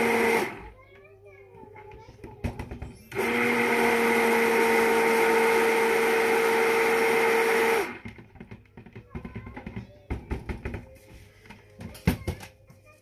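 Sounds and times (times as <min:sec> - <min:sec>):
stick blender humming: 0:00.0 - 0:12.4.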